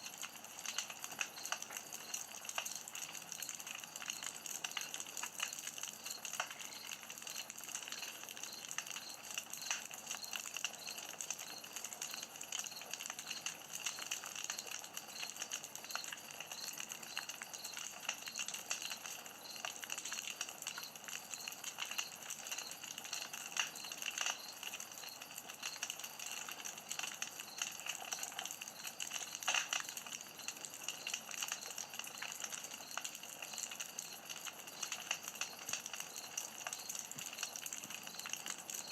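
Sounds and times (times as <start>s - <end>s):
campfire crackling and hissing: 0.0s - 38.9s.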